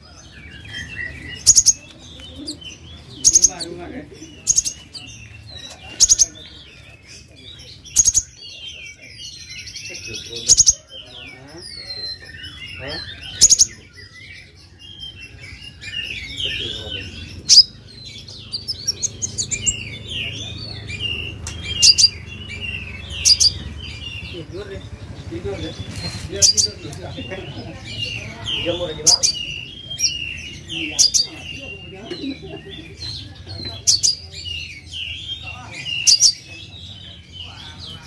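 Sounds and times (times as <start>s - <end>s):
bird chirping: 0.0s - 38.0s
bird twittering: 0.0s - 38.0s.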